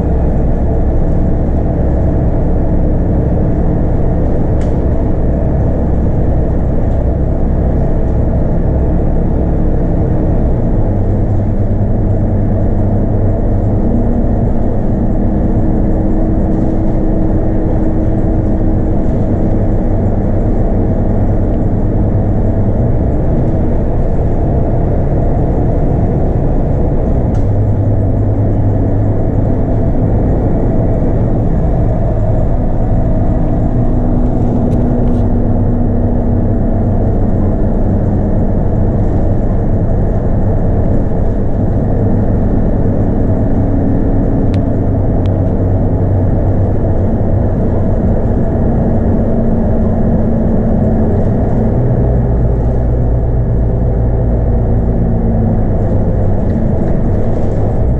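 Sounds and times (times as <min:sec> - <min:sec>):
bus diesel engine running: 0:00.0 - 0:57.9
road noise: 0:00.0 - 0:57.9.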